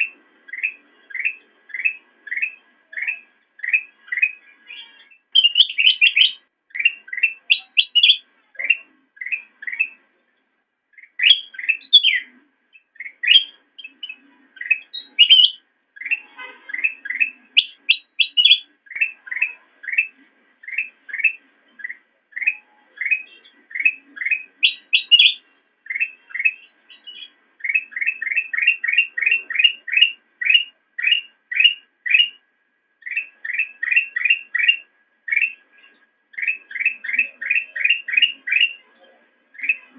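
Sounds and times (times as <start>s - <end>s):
bulbul chirping: 0.0s - 10.0s, 10.9s - 32.4s, 33.0s - 35.7s, 36.3s - 38.9s.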